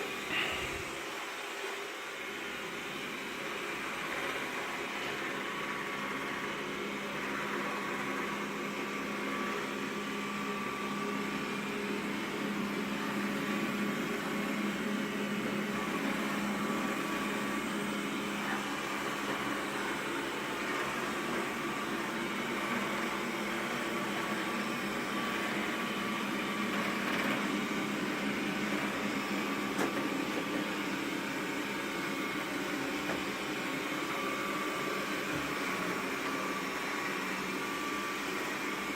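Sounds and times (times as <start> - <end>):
robot vacuum cleaner humming: 0.0 - 38.9.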